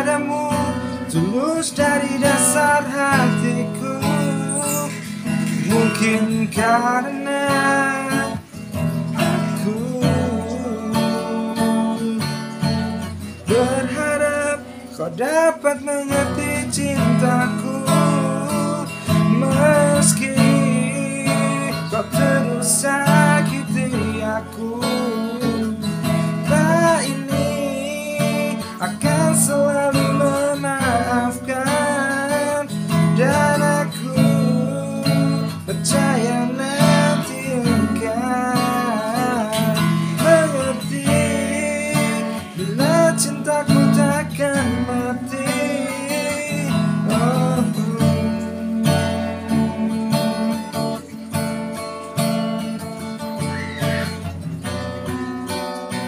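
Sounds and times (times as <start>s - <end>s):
man singing: 0.0s - 51.8s
acoustic guitar strummed and picked: 0.0s - 56.0s.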